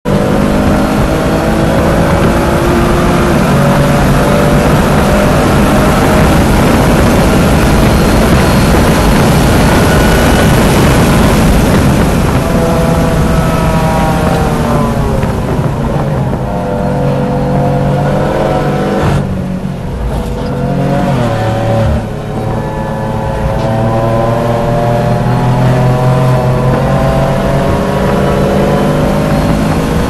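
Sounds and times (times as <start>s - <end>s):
car engine at full throttle: 0.0s - 30.0s
wind noise: 0.1s - 30.0s.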